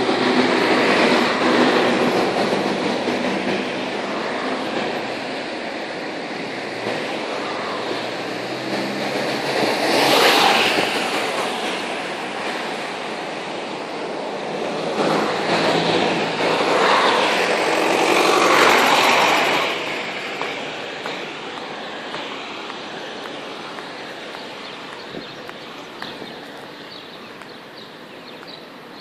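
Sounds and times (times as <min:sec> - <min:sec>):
vehicles passing close by: 0:00.0 - 0:29.0.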